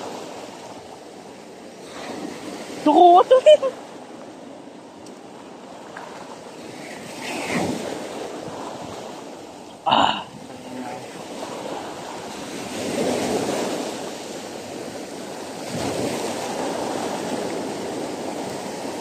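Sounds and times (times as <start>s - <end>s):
sea surf breaking on beach: 0.0s - 19.0s.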